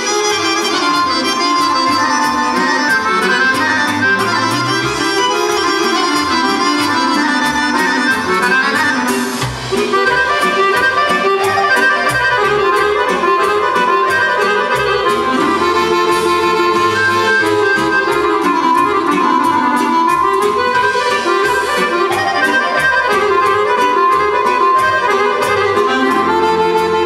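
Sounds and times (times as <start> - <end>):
accordion playing folk dance: 0.0 - 27.0
steady percussive beat: 0.0 - 27.0.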